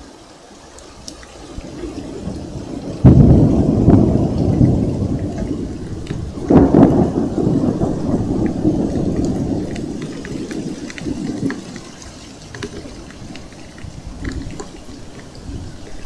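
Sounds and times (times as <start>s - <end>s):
scattered drips: 0.0s - 16.0s
steady rain: 0.0s - 16.0s
thunder clap rumbling: 1.5s - 16.0s.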